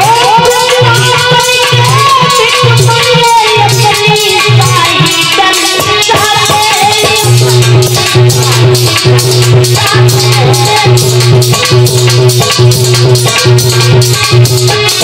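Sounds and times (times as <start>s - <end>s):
percussion beat with rattles: 0.0s - 15.0s.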